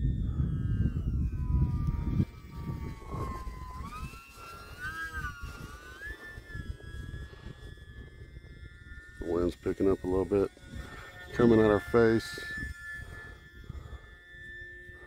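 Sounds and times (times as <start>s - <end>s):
model plane propeller whining: 0.0s - 15.0s
wind rumble on microphone: 0.0s - 15.0s.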